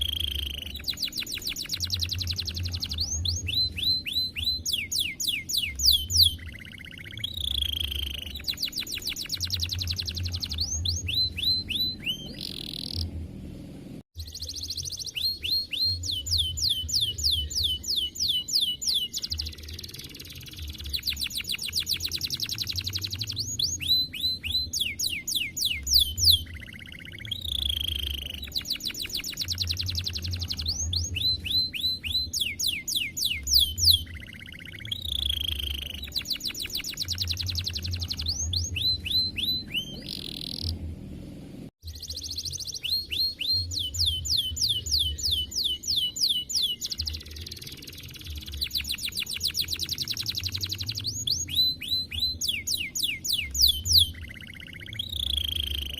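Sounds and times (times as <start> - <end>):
canary singing trills: 0.0 - 13.2, 14.2 - 40.9, 41.8 - 55.9.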